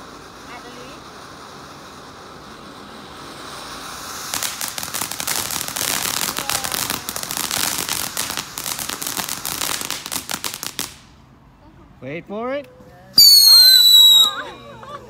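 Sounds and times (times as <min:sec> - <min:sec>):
firework fountain hissing and crackling: 0:00.0 - 0:15.0.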